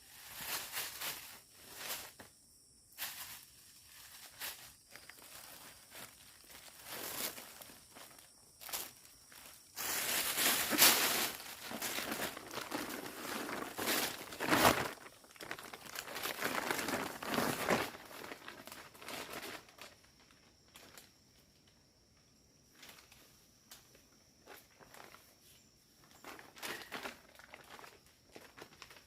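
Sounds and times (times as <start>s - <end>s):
plastic crinkling and rustling: 0.0s - 2.3s, 3.0s - 21.2s, 26.0s - 29.0s.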